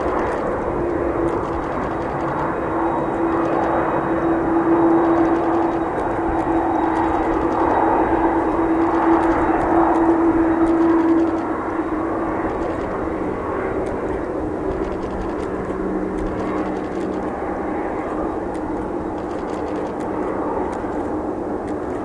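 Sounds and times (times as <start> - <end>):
jet engines running: 0.0 - 22.0
low hum: 0.0 - 22.0.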